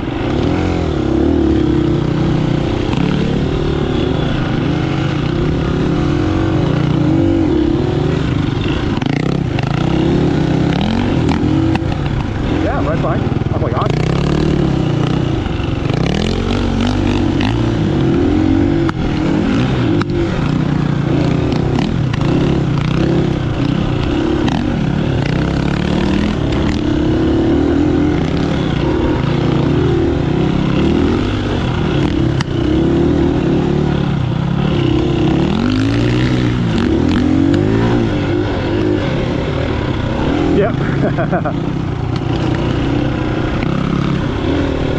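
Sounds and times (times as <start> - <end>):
steady rushing noise: 0.0 - 44.9
vehicle engine revving: 0.0 - 44.9.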